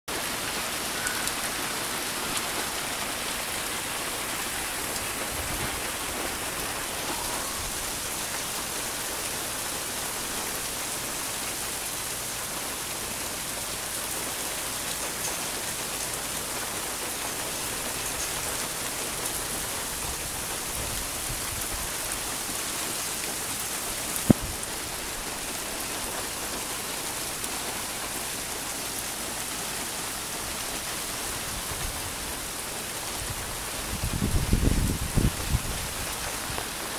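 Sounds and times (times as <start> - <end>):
hail and rain pattering: 0.1 - 36.9.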